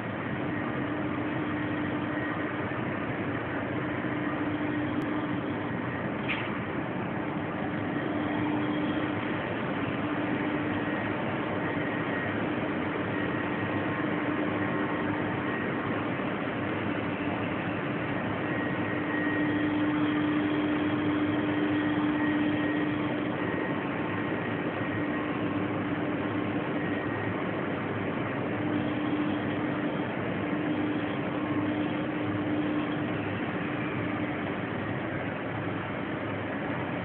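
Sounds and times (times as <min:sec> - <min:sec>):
low machinery hum: 0:00.0 - 0:37.0.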